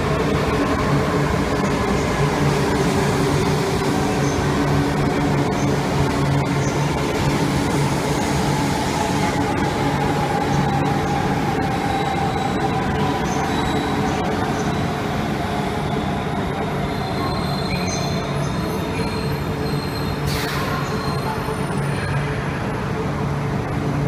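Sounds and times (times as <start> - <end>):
train wheels rumbling: 0.0 - 21.7.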